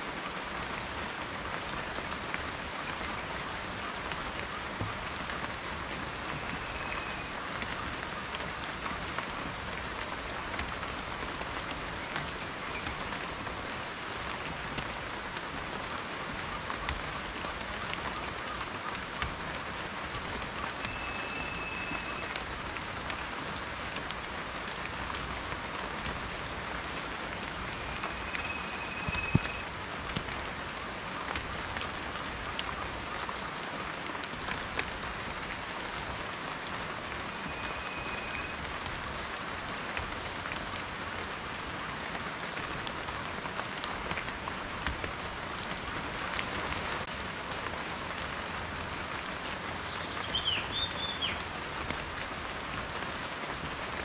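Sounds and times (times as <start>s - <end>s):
raindrops ticking and tapping: 0.0s - 54.0s
steady rain falling: 0.0s - 54.0s.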